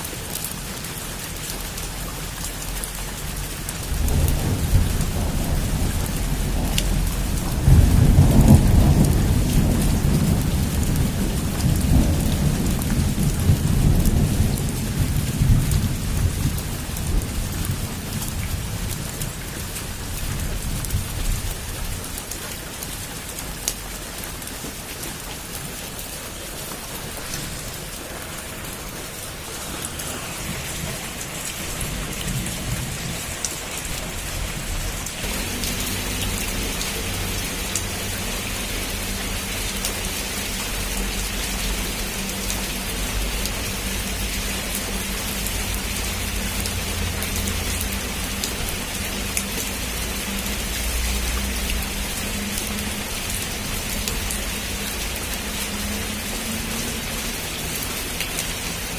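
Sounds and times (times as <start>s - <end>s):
heavy rain on a rooftop: 0.0s - 58.9s
thunder rumbling: 3.3s - 22.2s, 26.3s - 54.9s.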